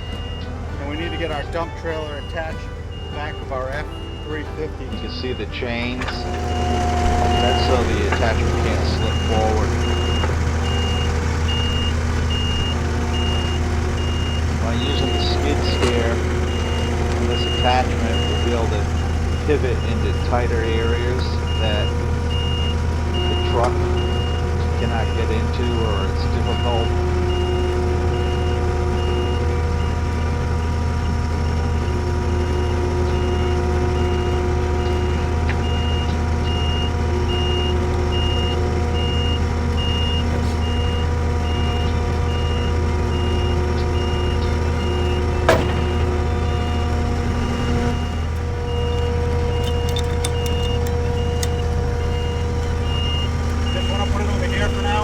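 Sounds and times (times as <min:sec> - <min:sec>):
reversing alarm beeping: 0:00.0 - 0:55.0
skid steer engine running: 0:00.0 - 0:55.0.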